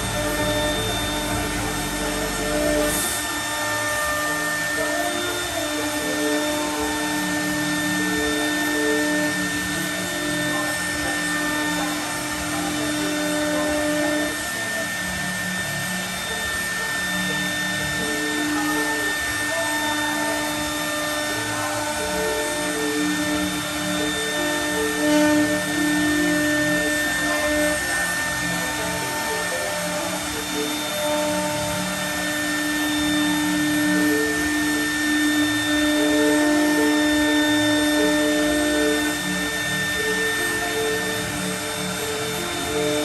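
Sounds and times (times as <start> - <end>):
machine noise: 0.0 - 43.0
milling spindle whine: 0.0 - 43.0.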